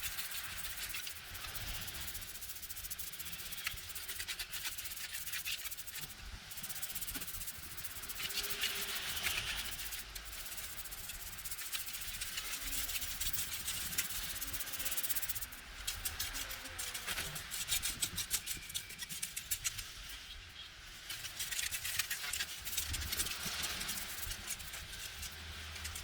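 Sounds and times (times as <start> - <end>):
scratchy rubbing strokes: 0.0 - 20.1, 21.1 - 26.0.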